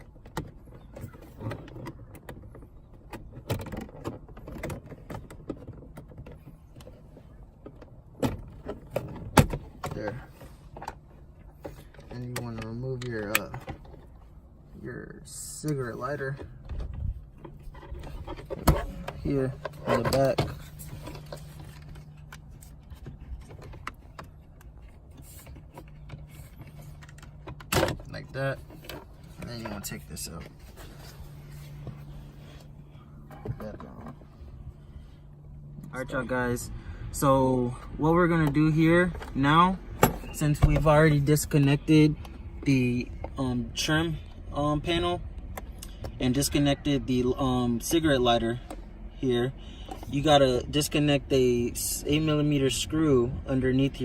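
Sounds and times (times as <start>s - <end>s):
steady low hum: 5.1s - 54.0s.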